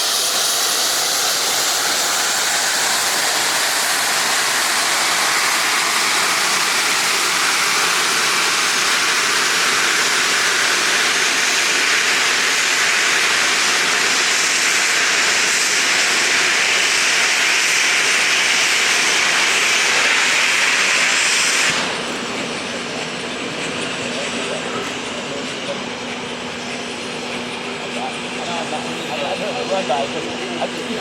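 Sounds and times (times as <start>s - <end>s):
steam locomotive venting steam: 0.0s - 31.0s.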